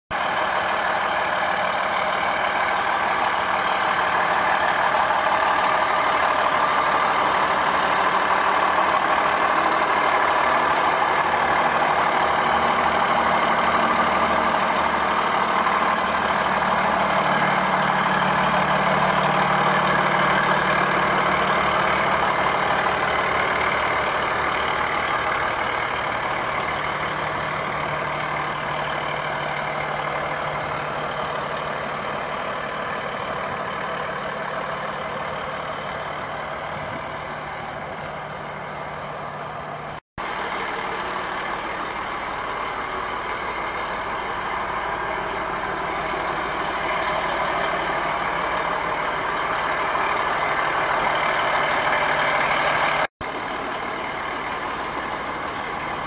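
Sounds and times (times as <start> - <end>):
diesel engine idling: 0.1 - 56.0.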